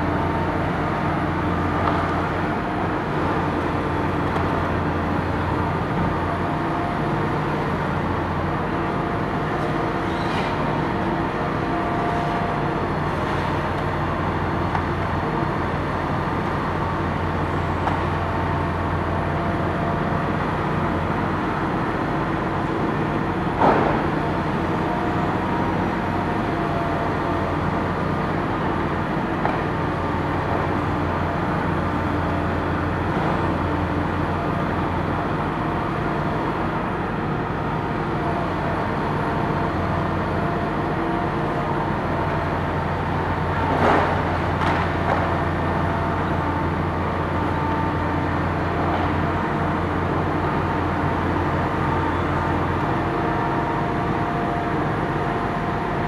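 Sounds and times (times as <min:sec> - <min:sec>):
excavator diesel engines droning: 0:00.0 - 0:56.0.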